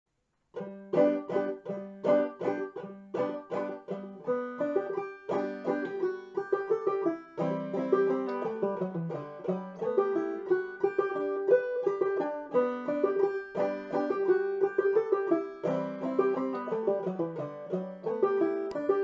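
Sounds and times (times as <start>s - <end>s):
banjo picking: 0.5s - 19.0s.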